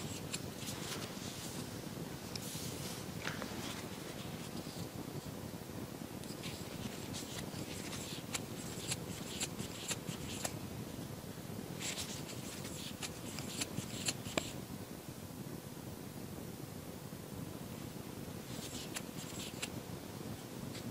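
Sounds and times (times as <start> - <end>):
faint room hum: 0.0 - 20.9.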